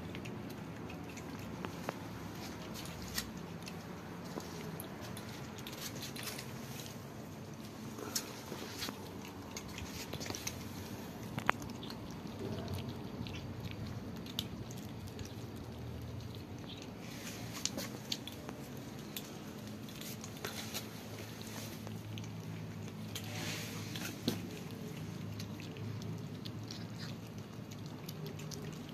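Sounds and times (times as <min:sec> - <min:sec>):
cats crunching dry kibble: 0:00.0 - 0:28.9.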